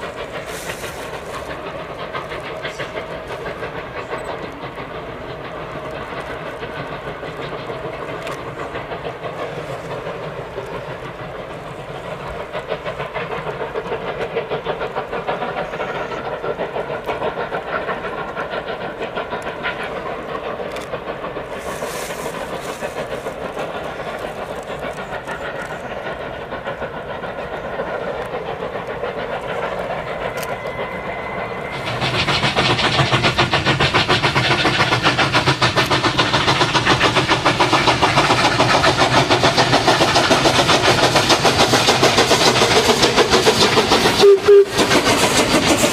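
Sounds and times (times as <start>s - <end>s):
steam hiss: 0.0s - 45.9s
train wheels clattering on rails: 0.0s - 45.9s.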